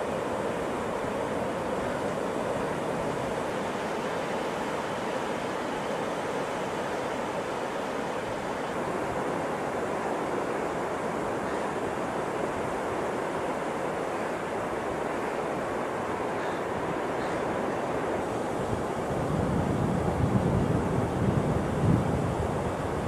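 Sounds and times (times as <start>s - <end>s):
waves breaking on a beach: 0.0s - 23.0s.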